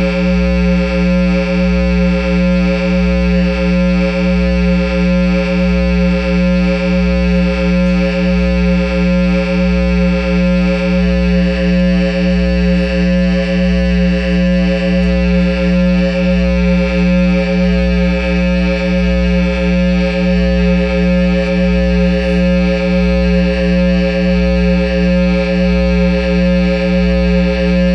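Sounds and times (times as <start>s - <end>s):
deep bass throb: 0.0s - 27.9s
electronic drone from guitar amp: 0.0s - 27.9s.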